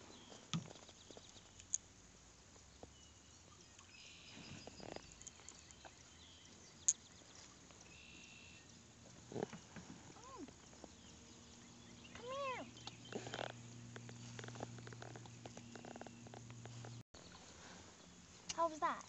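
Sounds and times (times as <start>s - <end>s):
calm river ambience: 0.0s - 19.0s
distant bird calls: 2.8s - 19.0s.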